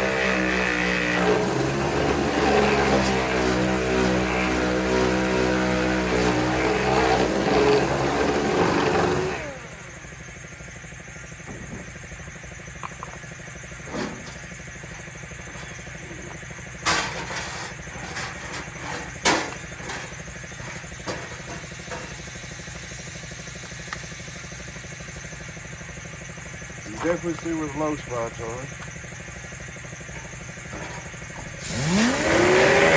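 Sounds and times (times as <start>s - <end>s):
loud dense machine noise: 0.0s - 32.9s
low motor hum: 0.0s - 32.9s.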